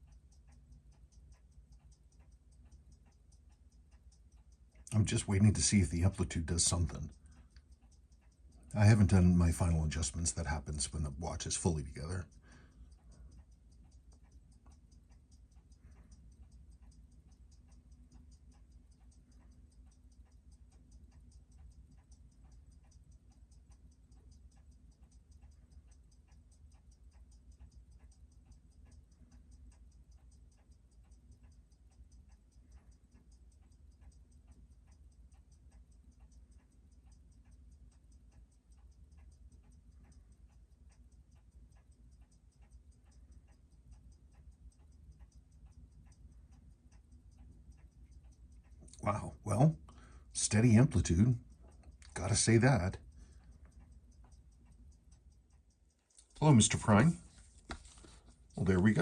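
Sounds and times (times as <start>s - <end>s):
low steady hum: 0.0s - 59.0s
rapid watch ticking: 0.0s - 59.0s.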